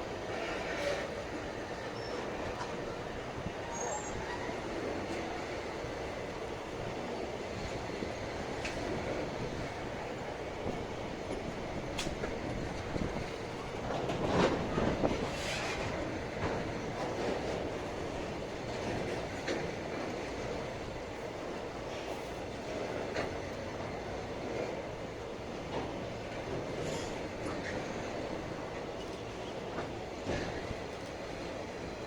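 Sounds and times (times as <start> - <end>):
freight train cars rumbling: 0.0 - 32.0.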